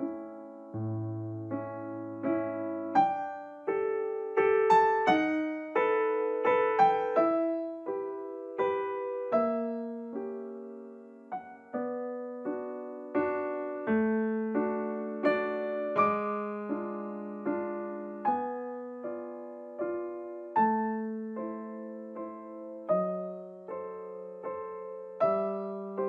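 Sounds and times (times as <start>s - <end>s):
slow solo piano piece: 0.0s - 26.0s.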